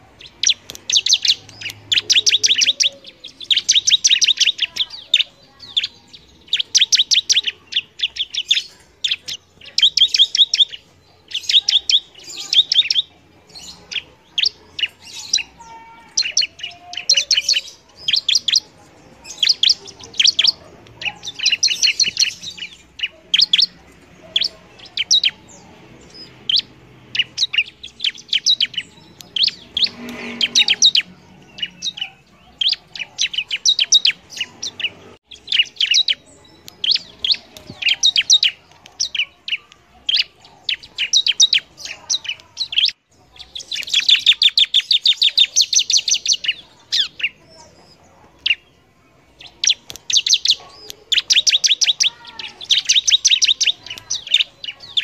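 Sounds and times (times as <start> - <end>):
bird chirping rapidly: 0.0 - 48.7, 49.3 - 55.0.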